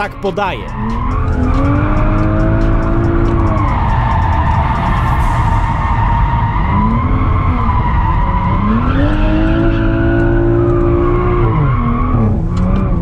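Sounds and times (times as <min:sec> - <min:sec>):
tyres skidding and squealing: 0:00.0 - 0:13.0
car engine at high revs: 0:00.7 - 0:13.0.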